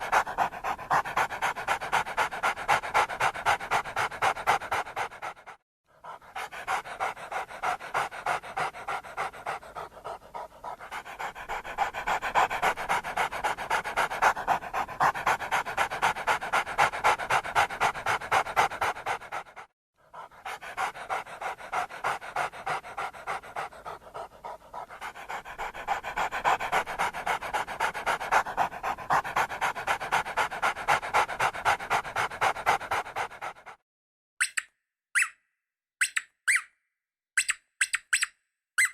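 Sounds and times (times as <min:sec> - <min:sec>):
dog panting rapidly: 0:00.0 - 0:33.8.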